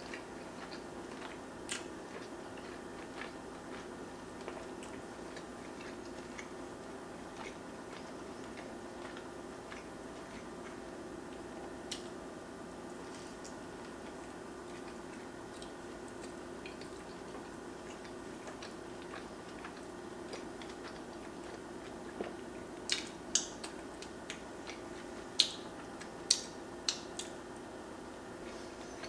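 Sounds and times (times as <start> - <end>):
chewing sandwich: 0.0 - 12.1, 12.9 - 27.4.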